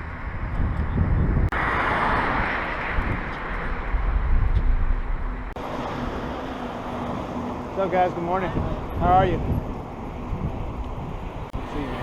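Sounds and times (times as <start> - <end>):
wind rushing over microphone: 0.0 - 6.4, 8.3 - 12.0
road noise rumble: 0.0 - 12.0.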